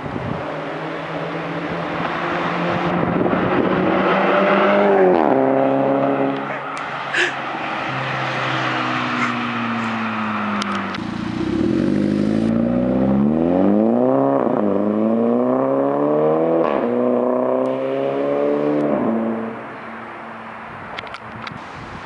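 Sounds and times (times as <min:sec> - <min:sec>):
car engine accelerating: 0:00.3 - 0:20.6.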